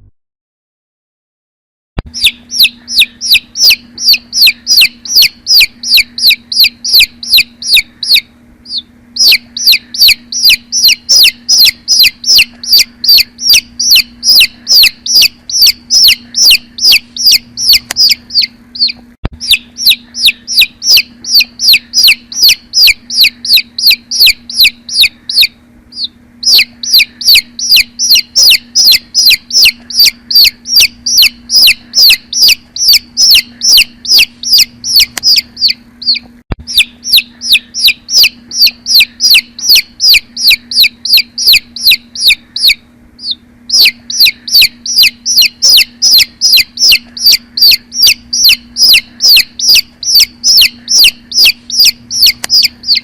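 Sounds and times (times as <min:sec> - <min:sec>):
chicks peeping: 0:02.1 - 0:53.0.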